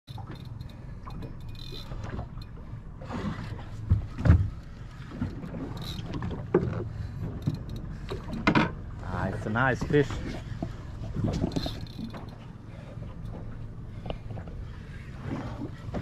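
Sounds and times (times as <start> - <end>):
wind: 0.0 - 16.0
boat rumble: 0.1 - 16.0
water against hull: 0.1 - 16.0.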